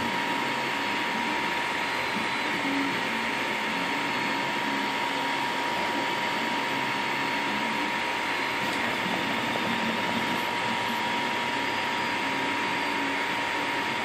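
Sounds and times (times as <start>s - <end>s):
steady high hum: 0.0s - 14.0s.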